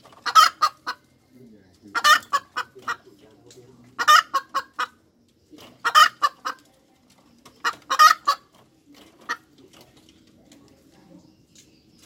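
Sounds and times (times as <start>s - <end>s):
hen clucking: 0.0s - 12.0s.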